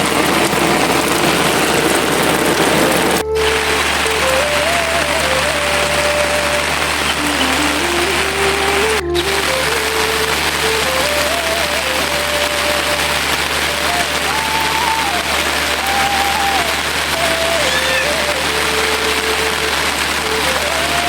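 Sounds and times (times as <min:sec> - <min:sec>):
heavy rain falling: 0:00.0 - 0:21.0
slow held-note melody: 0:00.0 - 0:21.0.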